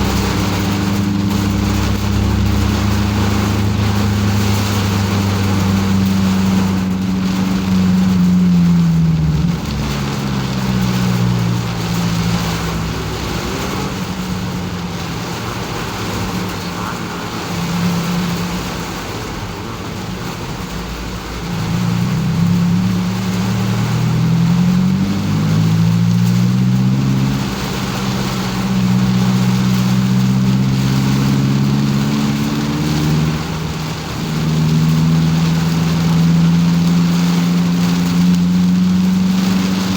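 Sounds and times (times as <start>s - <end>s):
car engine shifting through gears: 0.0s - 39.9s
road noise hiss: 0.0s - 39.9s.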